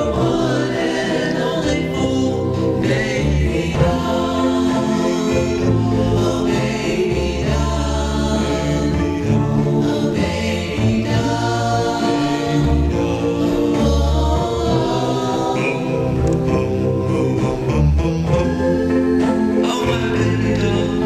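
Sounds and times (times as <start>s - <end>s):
band with bass notes: 0.0s - 21.0s
doo-wop group singing harmony: 0.0s - 21.0s.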